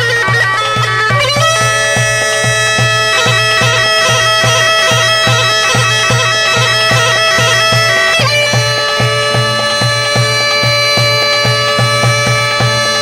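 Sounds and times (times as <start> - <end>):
reedy bagpipe-like wind instrument: 0.0 - 13.0
steady drum beat: 0.0 - 13.0.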